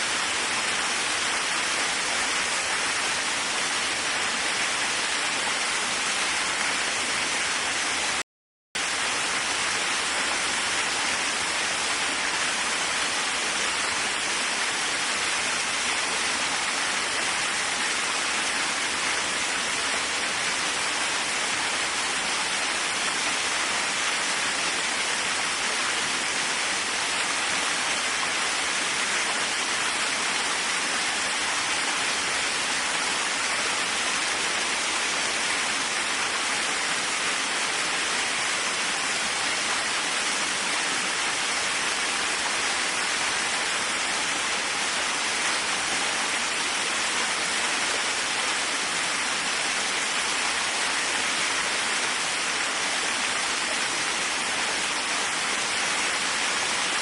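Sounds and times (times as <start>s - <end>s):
waterfall roaring: 0.0s - 8.2s, 8.8s - 57.0s.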